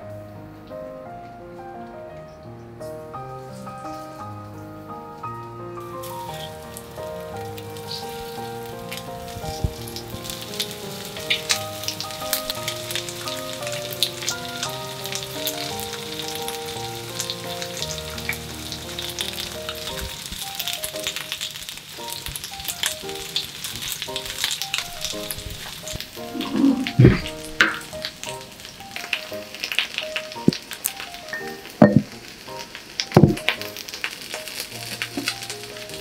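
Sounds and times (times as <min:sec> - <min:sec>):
soft background music: 0:00.0 - 0:36.0
food sizzling in hot oil: 0:02.8 - 0:36.0
oil popping and crackling: 0:05.2 - 0:36.0.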